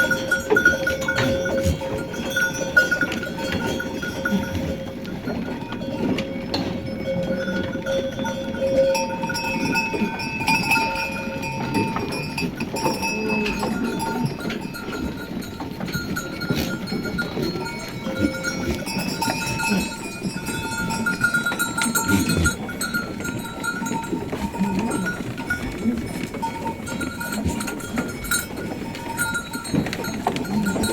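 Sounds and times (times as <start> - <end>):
low shuffle of moving flock: 0.0 - 30.9
sheep bells clanking: 0.0 - 30.9.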